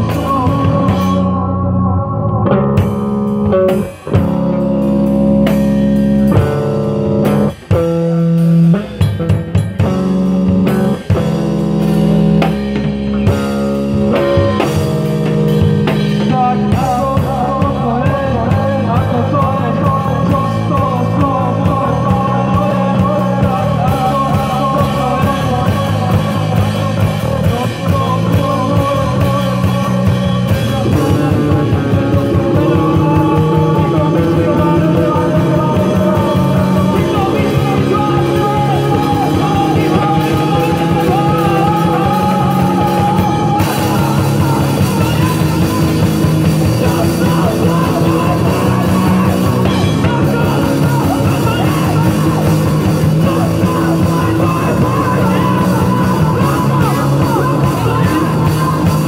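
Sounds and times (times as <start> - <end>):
person singing: 0.0 - 9.0, 13.1 - 59.0
drum kit playing: 0.0 - 59.0
electric bass: 0.0 - 59.0.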